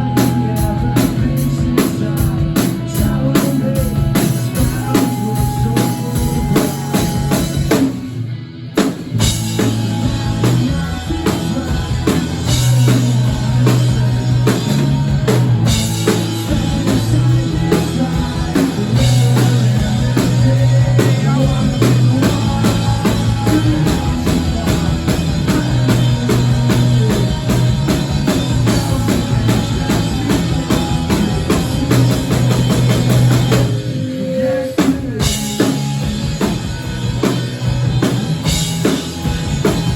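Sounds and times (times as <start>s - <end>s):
drum kit beat: 0.0s - 8.2s, 8.8s - 34.0s, 34.8s - 39.9s
electric guitars and bass: 0.0s - 39.9s.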